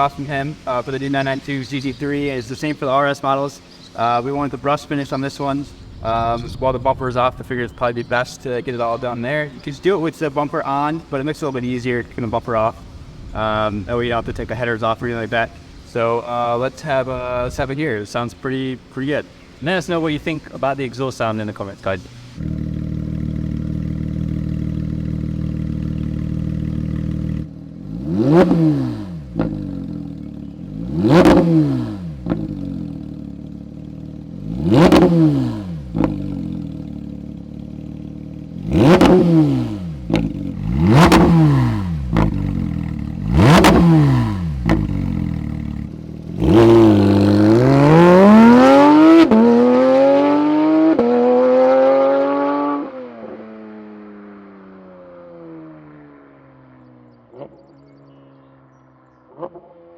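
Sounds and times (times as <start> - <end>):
sports car engine idling and revving: 0.0 - 59.9.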